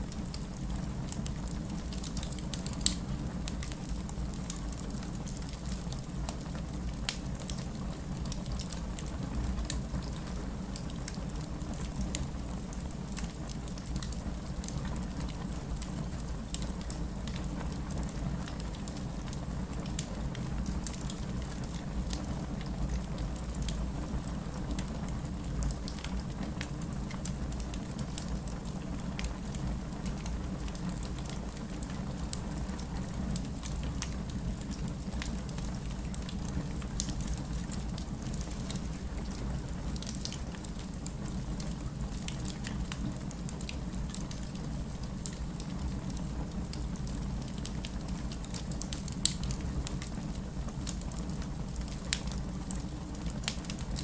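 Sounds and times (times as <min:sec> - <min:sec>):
logs crackling and popping: 0:00.1 - 0:54.0.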